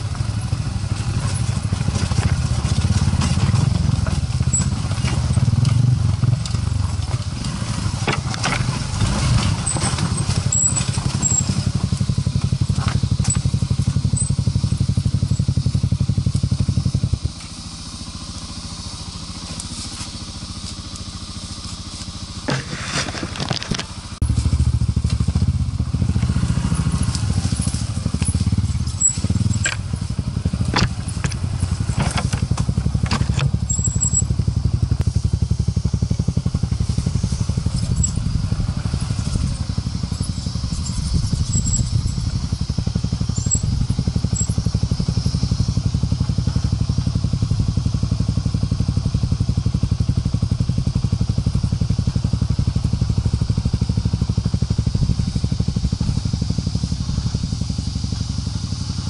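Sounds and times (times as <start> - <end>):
off-road motorcycle engine running: 0.0 - 59.0.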